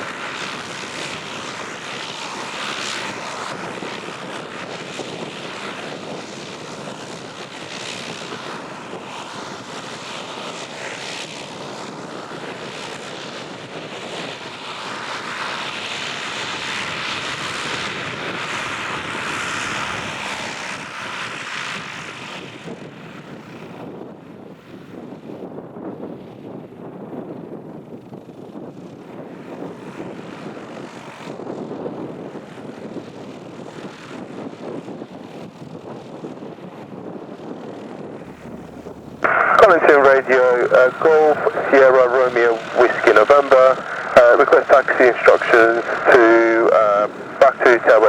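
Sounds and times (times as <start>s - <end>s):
light aircraft propeller engine: 0.0s - 48.0s.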